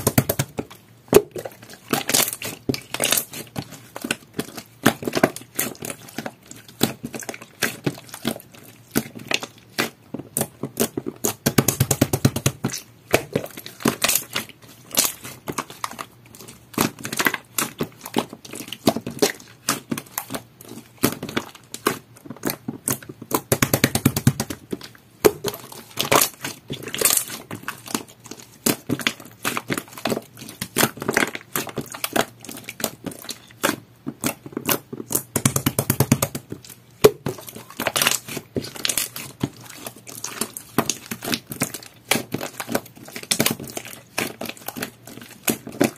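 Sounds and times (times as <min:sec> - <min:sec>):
slime squishing with sticky pops: 0:00.0 - 0:45.9.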